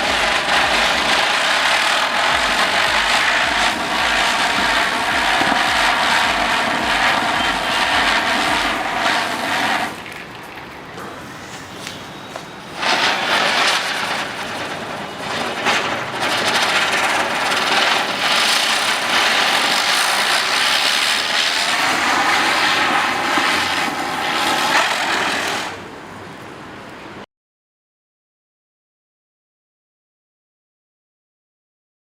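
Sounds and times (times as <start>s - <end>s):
ground spinner firework hissing: 0.0s - 26.8s.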